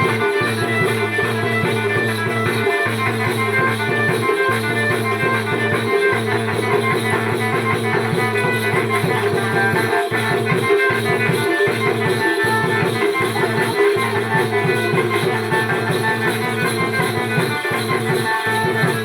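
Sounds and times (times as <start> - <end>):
drums: 0.0 - 19.0
shaken rattle percussion: 0.0 - 19.0.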